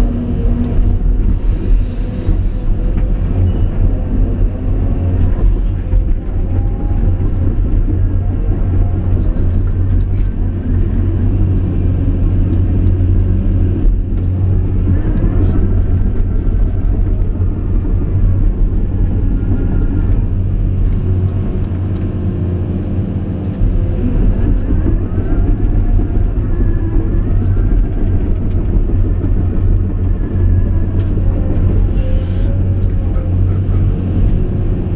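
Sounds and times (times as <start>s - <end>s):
excavator diesel engine humming: 0.0s - 34.9s.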